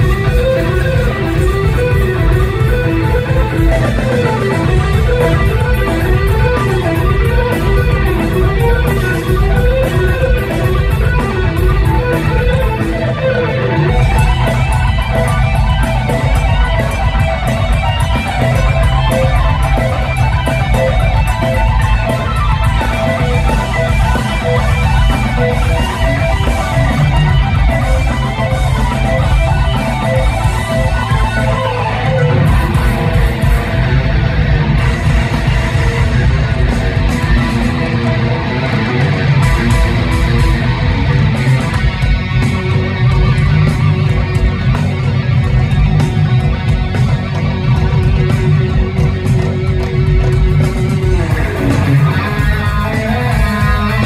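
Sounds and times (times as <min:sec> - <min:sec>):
bass: 0:00.0 - 0:54.0
drums: 0:00.0 - 0:54.0
electric guitar lead lines: 0:00.0 - 0:54.0.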